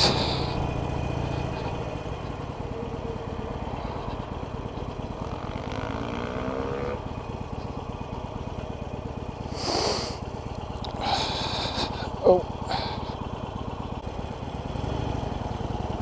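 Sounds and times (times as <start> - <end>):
motorcycle engine throbbing: 0.0 - 16.0.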